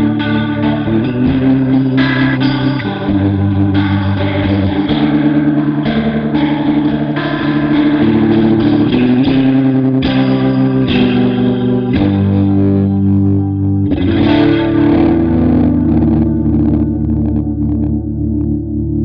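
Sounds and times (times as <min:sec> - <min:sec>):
electric guitar playing chords: 0:00.0 - 0:19.0.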